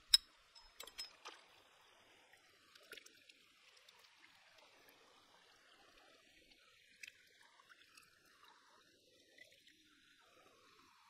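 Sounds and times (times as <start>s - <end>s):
faint stream water: 0.0s - 11.0s.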